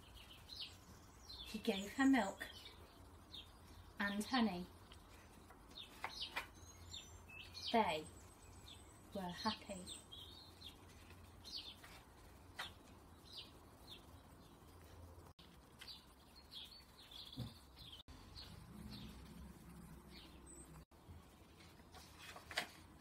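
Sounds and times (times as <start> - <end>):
small birds chirping: 0.0 - 22.4.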